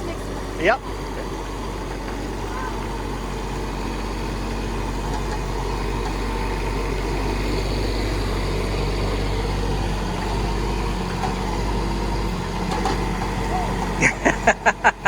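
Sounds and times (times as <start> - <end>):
mini excavator diesel engine: 0.0 - 15.0.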